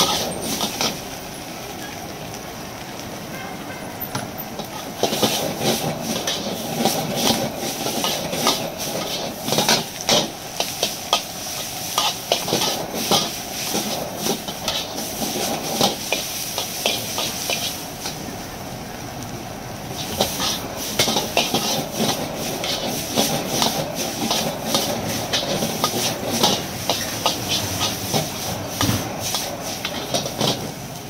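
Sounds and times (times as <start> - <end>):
spatula scraping and clanking wok: 0.0 - 1.1, 4.3 - 18.2, 19.9 - 30.9
gas burner roar: 0.0 - 3.2, 4.0 - 31.0
frying hiss: 0.0 - 31.0.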